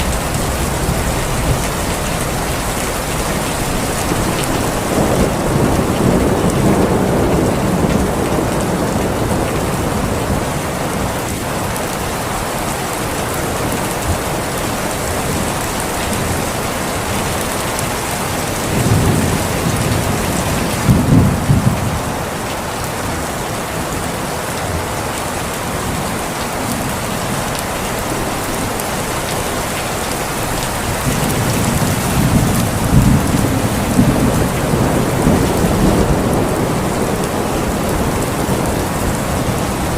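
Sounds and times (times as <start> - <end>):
thunder rumbling: 0.0 - 11.8, 13.2 - 22.4, 28.4 - 39.9
rain falling: 0.0 - 39.9.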